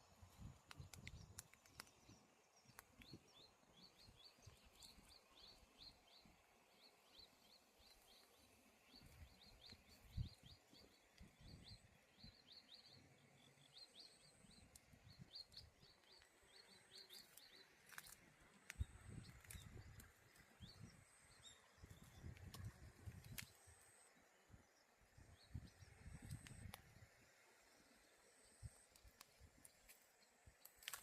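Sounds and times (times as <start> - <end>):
bird chirping: 0.3 - 26.8.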